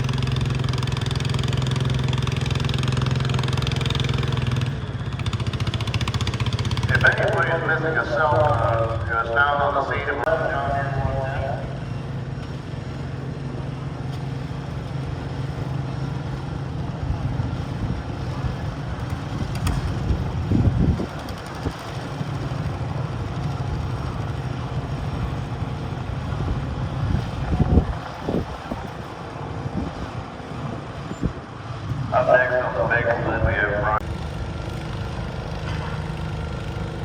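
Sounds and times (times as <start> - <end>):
garden tractor engine running: 0.0 - 9.3, 10.3 - 37.0.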